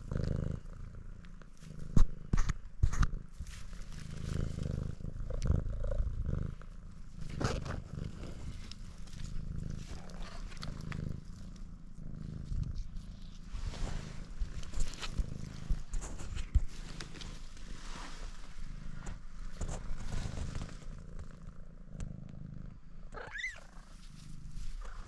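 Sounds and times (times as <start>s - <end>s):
cat purring: 0.0s - 25.0s
rustles in dry grass: 0.1s - 21.4s, 23.4s - 25.0s.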